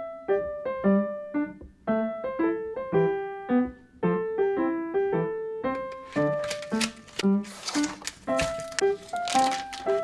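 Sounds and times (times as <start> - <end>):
gentle piano melody: 0.0 - 10.0.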